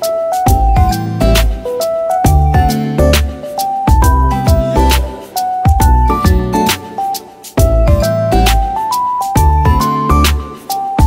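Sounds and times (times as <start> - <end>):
melody over bass and drums: 0.0 - 11.0.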